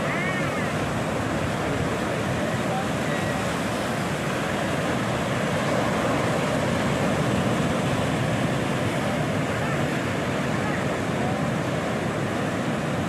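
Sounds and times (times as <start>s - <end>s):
surf breaking on rocky shore: 0.0s - 13.0s.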